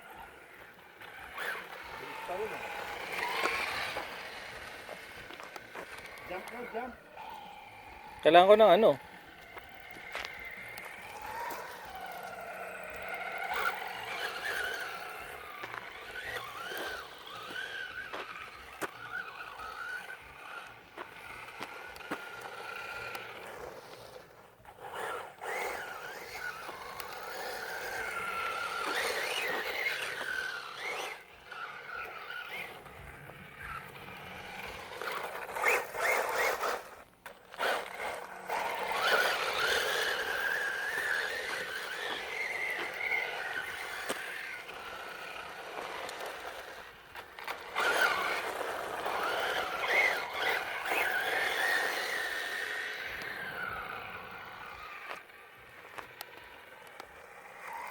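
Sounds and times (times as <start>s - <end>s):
electric motor whining: 0.0s - 57.9s
tyres scraping on dirt: 0.0s - 57.9s.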